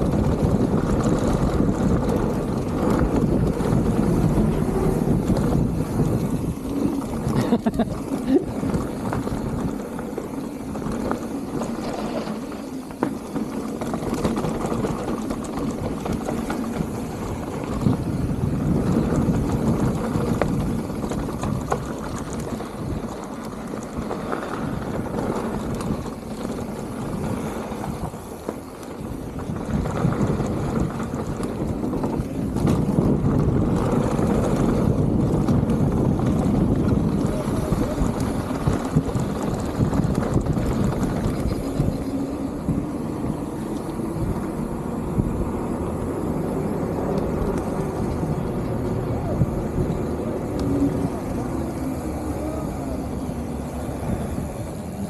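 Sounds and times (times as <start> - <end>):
bike knocks and rattles: 0.0 - 45.7
bike tyres rolling on dirt: 0.0 - 55.0
wind rushing over microphone: 0.0 - 55.0.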